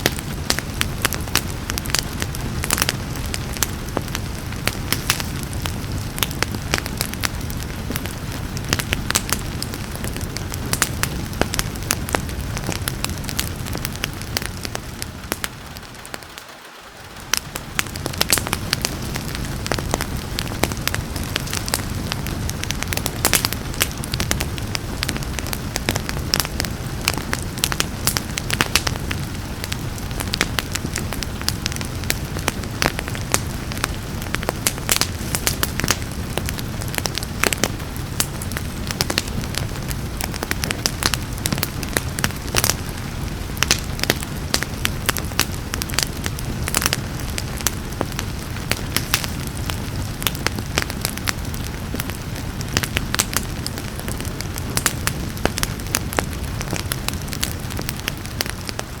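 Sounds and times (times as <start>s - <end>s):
rain hissing: 0.0s - 59.0s
wood fire crackling: 0.0s - 59.0s.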